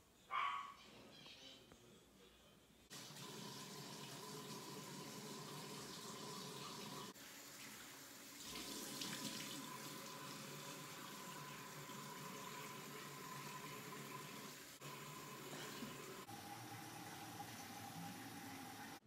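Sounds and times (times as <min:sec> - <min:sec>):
water running from sink tap: 0:02.9 - 0:19.0.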